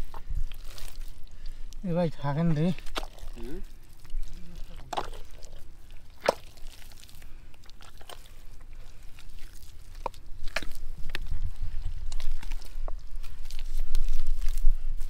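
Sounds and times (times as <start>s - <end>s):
hands squelching in wet mud: 0.0s - 15.0s.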